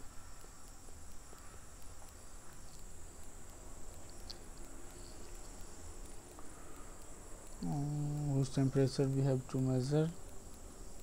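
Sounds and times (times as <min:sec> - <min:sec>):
faint ticks: 0:00.0 - 0:11.0.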